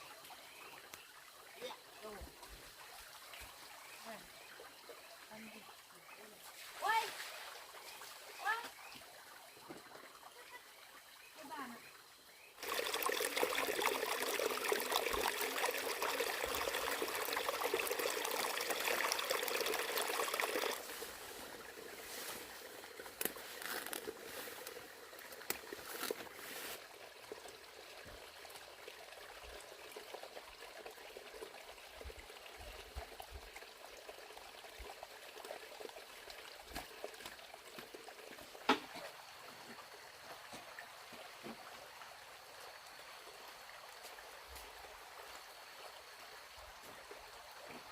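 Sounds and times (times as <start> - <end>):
water trickling: 0.0 - 47.9.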